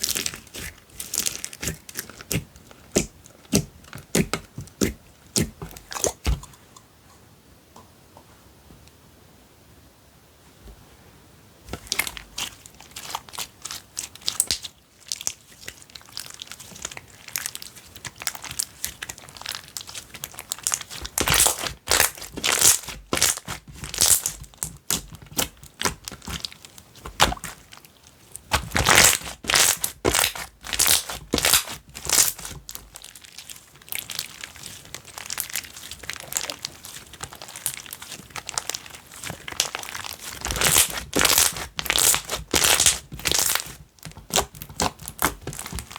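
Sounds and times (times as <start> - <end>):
slime clicking and crackling: 0.0 - 6.4, 11.7 - 45.9.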